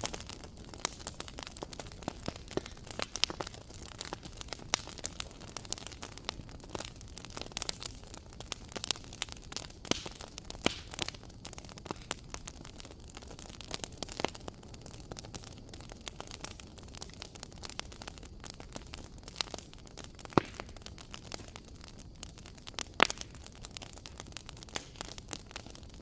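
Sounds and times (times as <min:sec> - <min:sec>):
flames rushing: 0:00.0 - 0:26.0
wood fire crackling and popping: 0:00.0 - 0:26.0.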